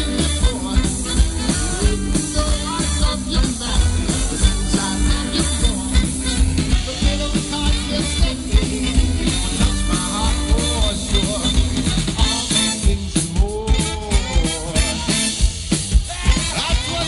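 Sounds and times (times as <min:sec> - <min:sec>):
big band swing music: 0:00.0 - 0:17.0.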